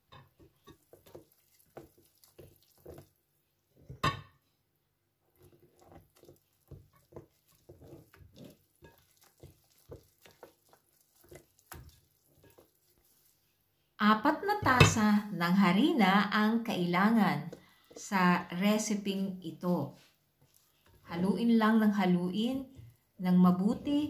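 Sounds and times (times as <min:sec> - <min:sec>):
wet dough squishing: 0:00.0 - 0:04.0, 0:05.1 - 0:15.1, 0:15.7 - 0:24.0.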